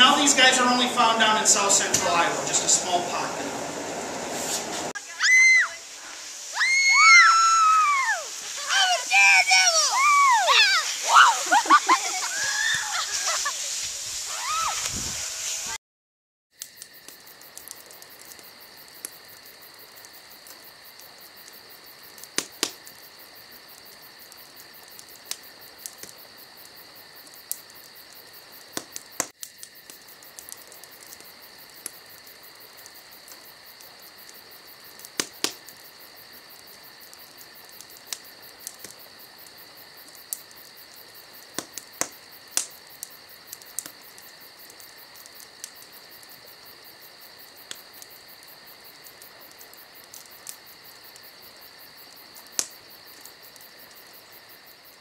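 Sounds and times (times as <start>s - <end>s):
wood fire crackling and popping: 0.0s - 15.1s, 16.6s - 55.0s.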